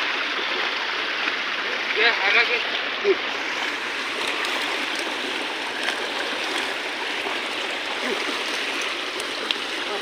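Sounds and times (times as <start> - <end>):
water rushing against rocky shore: 0.0 - 10.0.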